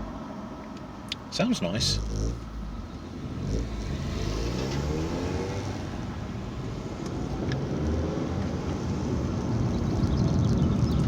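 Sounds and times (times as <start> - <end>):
traffic road rumble: 0.0 - 11.0
car engine accelerating: 1.9 - 11.0.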